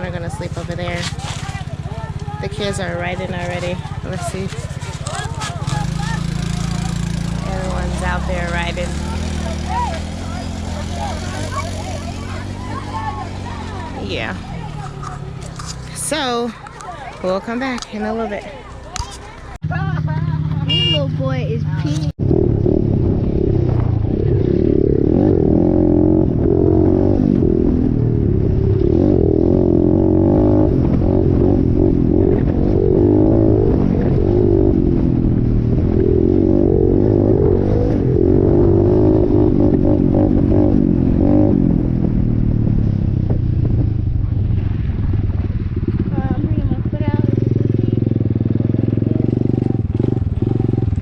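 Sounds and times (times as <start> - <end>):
off-road vehicle engine running: 0.0 - 51.0.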